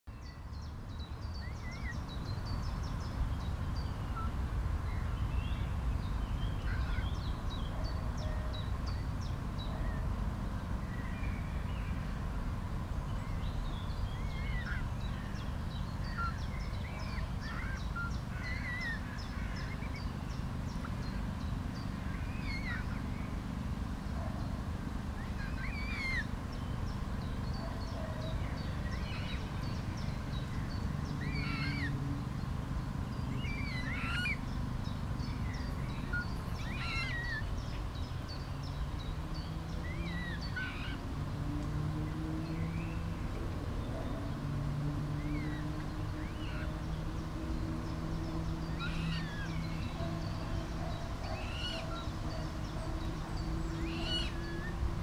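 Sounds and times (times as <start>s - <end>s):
birds peeping and chirping: 0.4s - 55.0s.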